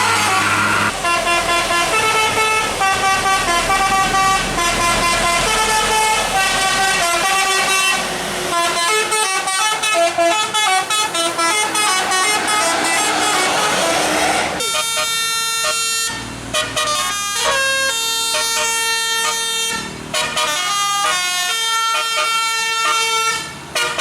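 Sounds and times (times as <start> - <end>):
electric trumpet horns playing melody: 0.0 - 13.9, 14.6 - 24.0.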